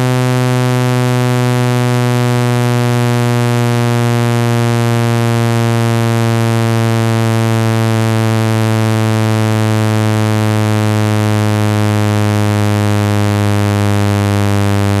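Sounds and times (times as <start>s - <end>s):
low buzzy tone from phone speaker: 0.0s - 15.0s.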